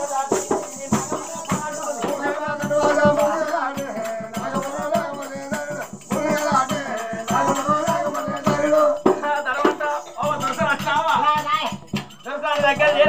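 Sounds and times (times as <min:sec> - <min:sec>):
rhythmic percussion: 0:00.0 - 0:13.0
voices singing: 0:00.0 - 0:13.0.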